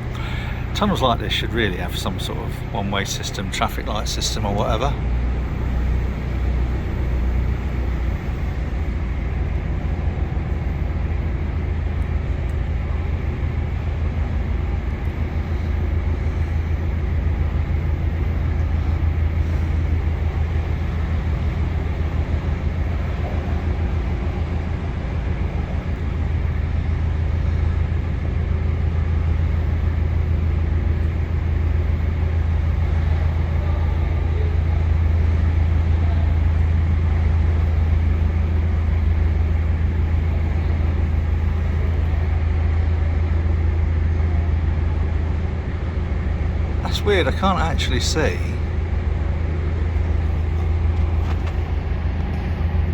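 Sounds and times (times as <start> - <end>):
boat diesel engine droning: 0.0 - 52.9.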